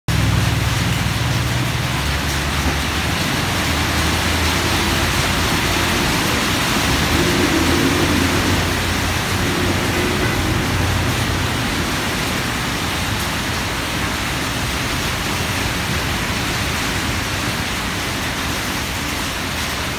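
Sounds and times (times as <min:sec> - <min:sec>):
heavy rain hissing: 0:00.1 - 0:19.9
traffic on wet road: 0:00.1 - 0:19.9.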